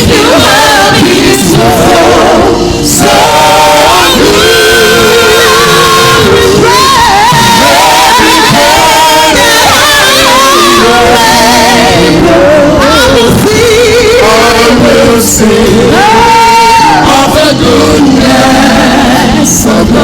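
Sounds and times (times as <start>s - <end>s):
band accompaniment: 0.0s - 20.0s
gospel choir singing: 0.0s - 20.0s.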